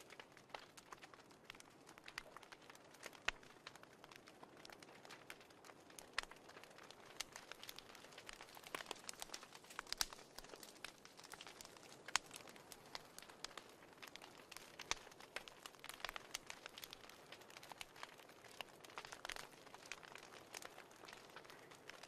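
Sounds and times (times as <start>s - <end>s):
faint steady fire hiss: 0.0s - 22.0s
wood fire crackling and popping: 0.0s - 22.0s.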